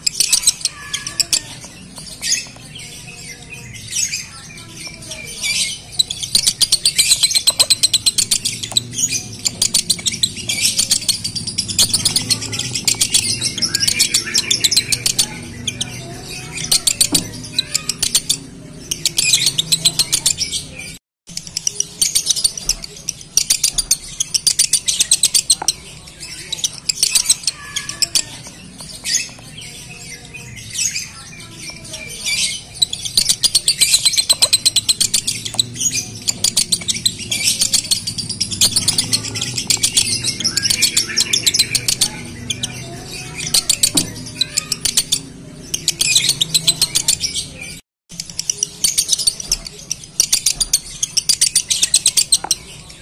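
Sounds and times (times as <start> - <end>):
lovebird chattering chirps: 0.0 - 53.0.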